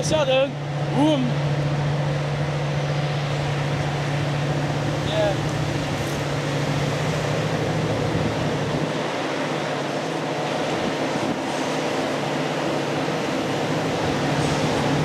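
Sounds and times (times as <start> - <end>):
diesel locomotive engine droning: 0.0 - 15.0.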